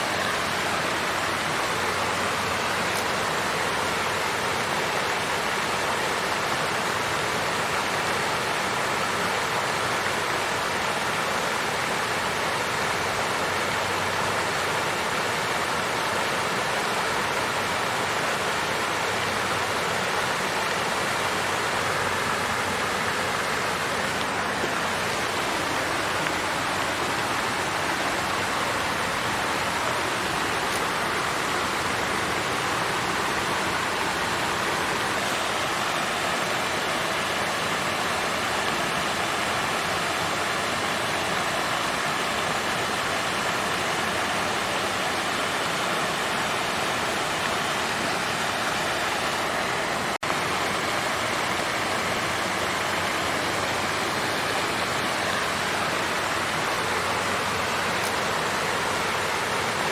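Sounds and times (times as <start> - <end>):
water fountain flowing: 0.0 - 59.9.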